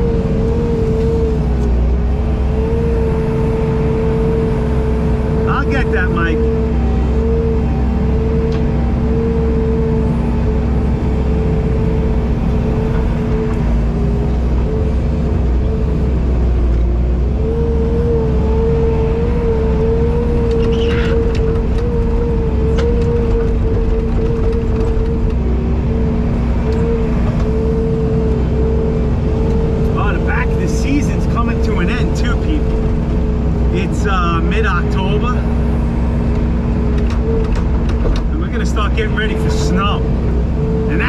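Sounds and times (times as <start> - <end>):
diesel engine rumble: 0.0 - 41.0.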